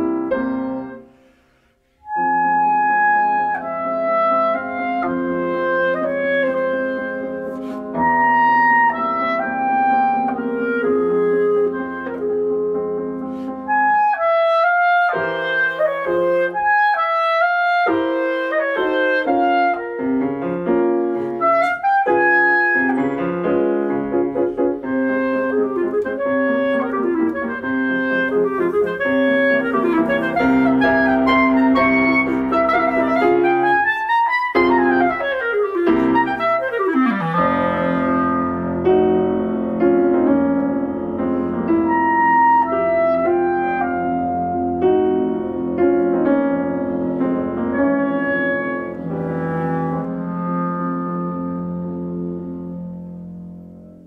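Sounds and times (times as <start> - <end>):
clarinet solo: 0.0 - 54.0
piano accompaniment: 0.0 - 54.0.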